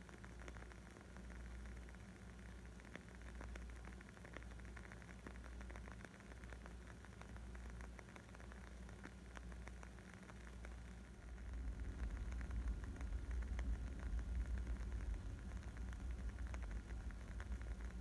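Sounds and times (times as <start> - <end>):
wood fire crackling: 3.0 - 18.0.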